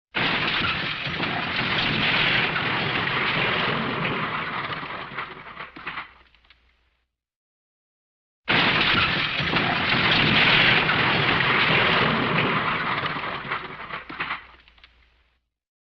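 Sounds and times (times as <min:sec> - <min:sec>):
debris clattering: 0:00.2 - 0:06.6, 0:08.5 - 0:15.2
breaking and crashing: 0:00.2 - 0:06.7, 0:08.5 - 0:15.4.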